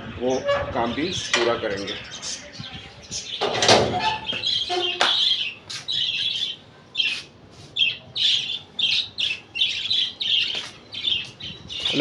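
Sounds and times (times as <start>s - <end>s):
parrots chirping and squawking: 0.1s - 12.0s.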